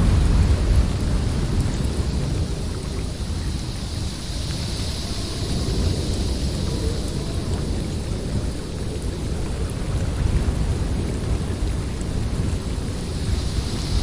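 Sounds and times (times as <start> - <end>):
blizzard wind howling: 0.0 - 14.0.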